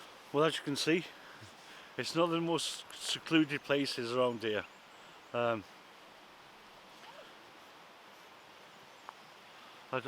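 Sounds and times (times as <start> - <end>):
faint outdoor hiss: 0.0 - 10.0.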